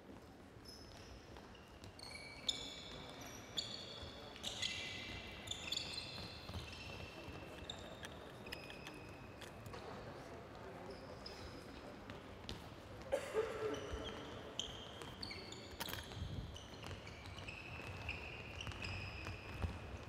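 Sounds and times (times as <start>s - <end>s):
shoes squeaking on floor: 0.1s - 10.0s, 10.6s - 20.0s.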